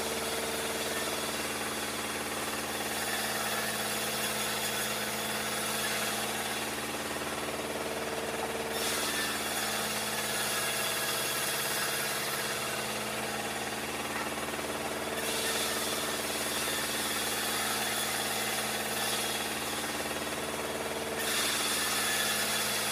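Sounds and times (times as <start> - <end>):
band saw machine hum: 0.0 - 22.9.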